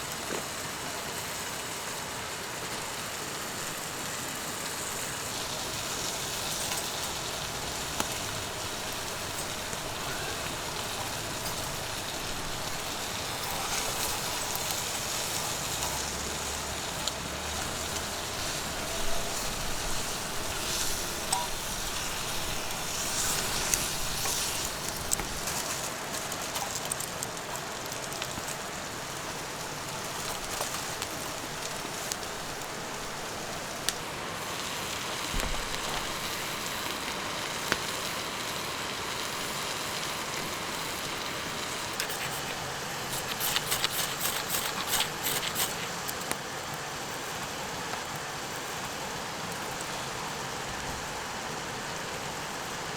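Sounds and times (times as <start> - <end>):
campfire crackling: 0.0 - 52.9
burning wood popping: 3.6 - 50.0.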